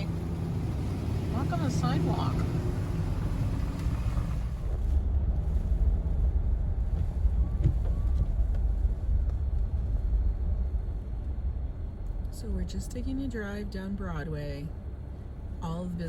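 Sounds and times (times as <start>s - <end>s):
car driving engine and road noise: 0.0s - 16.0s.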